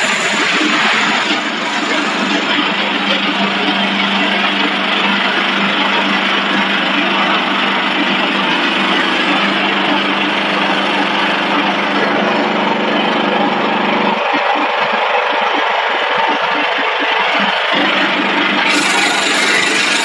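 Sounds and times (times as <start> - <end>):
production line machinery humming: 0.0 - 20.0.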